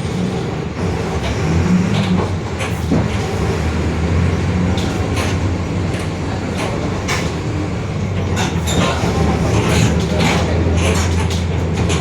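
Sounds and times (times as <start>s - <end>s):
bus differential droning: 0.0s - 12.0s
knocks and rattles: 0.8s - 12.0s.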